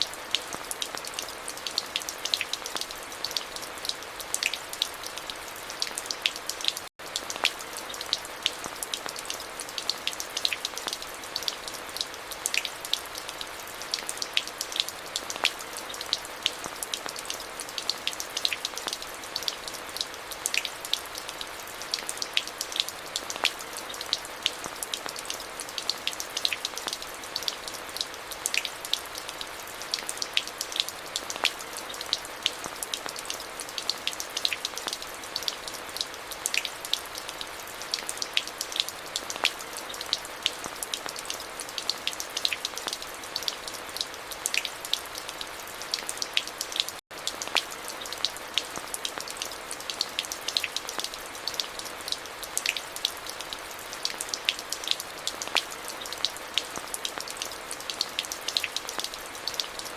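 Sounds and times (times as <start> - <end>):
close raindrop ticks: 0.0 - 59.9
steady rain: 0.0 - 59.9.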